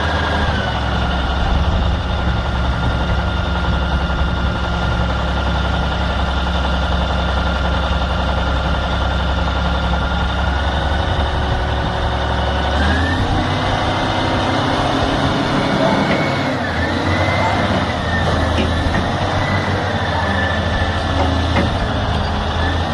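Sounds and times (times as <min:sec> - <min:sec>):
heavy vehicle engine running: 0:00.0 - 0:22.9.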